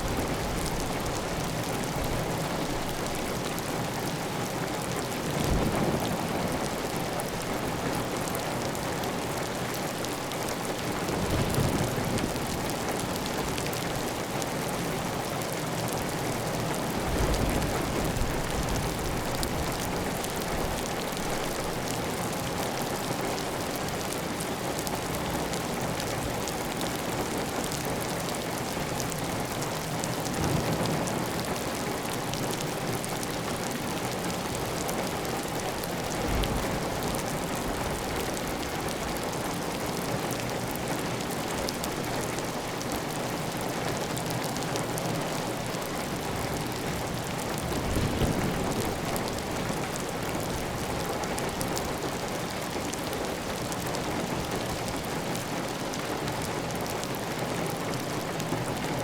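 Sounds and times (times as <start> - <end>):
heavy rain on a tile roof: 0.0 - 59.0.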